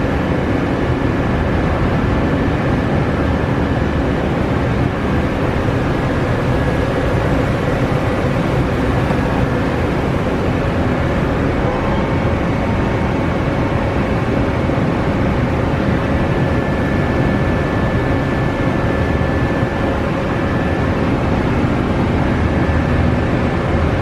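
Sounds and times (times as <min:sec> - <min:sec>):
lathe machine drone with whine: 0:00.0 - 0:24.0.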